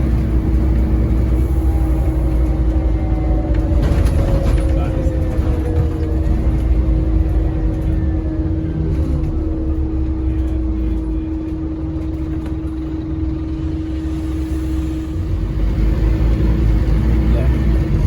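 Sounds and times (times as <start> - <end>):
bus engine rumble with whine: 0.0 - 18.0.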